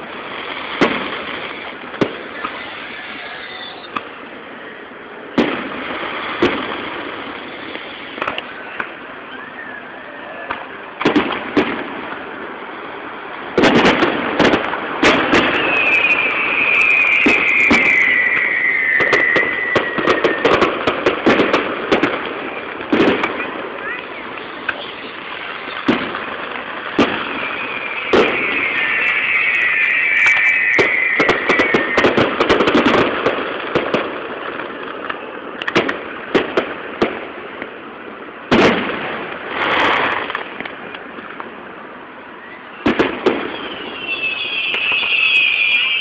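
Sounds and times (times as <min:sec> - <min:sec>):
firework shells bursting with bangs: 0:00.0 - 0:04.4, 0:05.2 - 0:09.3, 0:10.4 - 0:41.6, 0:42.7 - 0:46.0
falling firework whistle: 0:00.0 - 0:12.1, 0:13.5 - 0:37.2, 0:38.5 - 0:41.3, 0:42.0 - 0:46.0
dense firework crackling: 0:00.0 - 0:46.0.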